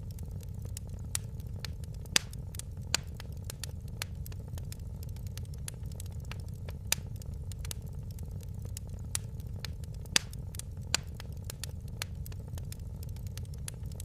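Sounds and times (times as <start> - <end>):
fire pops and snaps: 0.0 - 14.0
low rumble of burning fire: 0.0 - 14.0
wood fire crackling: 0.0 - 14.0.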